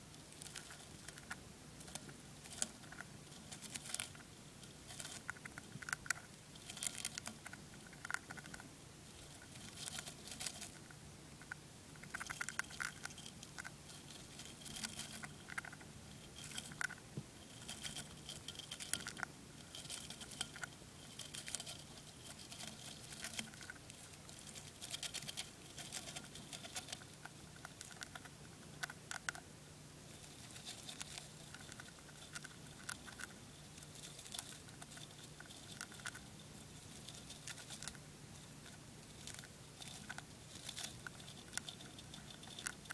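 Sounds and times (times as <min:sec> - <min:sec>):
hamster nibbling seeds: 0:00.0 - 0:42.9
low steady hum: 0:00.0 - 0:42.9.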